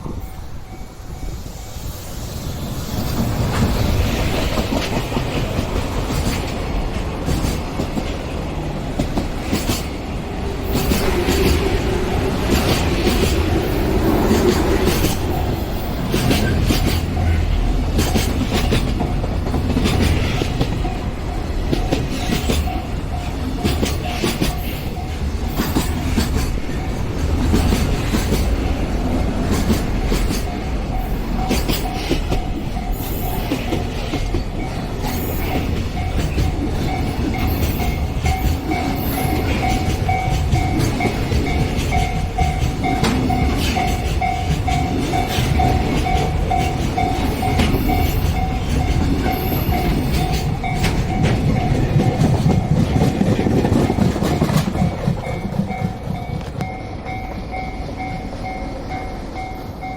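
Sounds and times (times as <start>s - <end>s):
train wheels clattering over rail joints: 2.9s - 58.6s.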